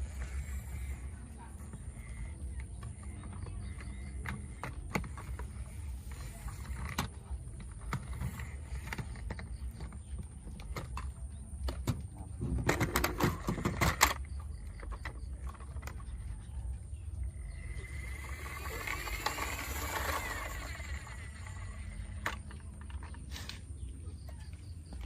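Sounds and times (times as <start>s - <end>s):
clatter: 0.0s - 16.7s, 17.4s - 23.7s.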